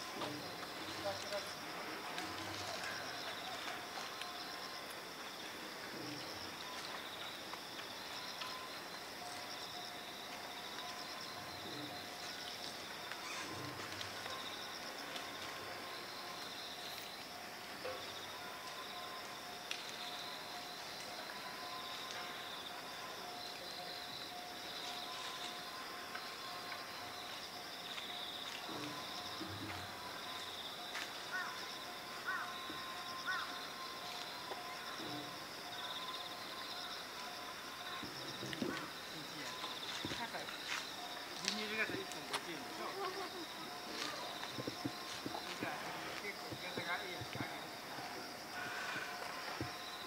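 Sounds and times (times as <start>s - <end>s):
insects trilling: 0.0s - 50.0s.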